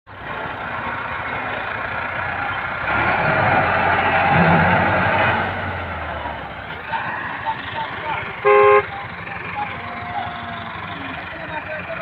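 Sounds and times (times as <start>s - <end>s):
tractor diesel engine running: 0.1s - 12.0s.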